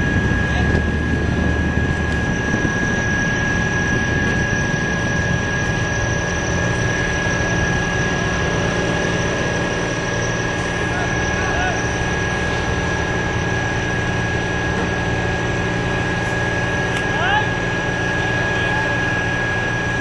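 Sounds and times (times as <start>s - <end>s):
engine rumble: 0.0s - 20.0s
high-pitched whine: 0.0s - 20.0s.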